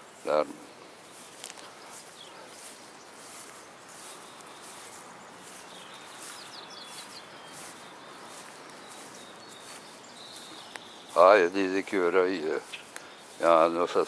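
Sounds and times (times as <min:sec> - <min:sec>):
birds chirping: 0:00.0 - 0:14.0
steady outdoor hiss: 0:00.0 - 0:14.0.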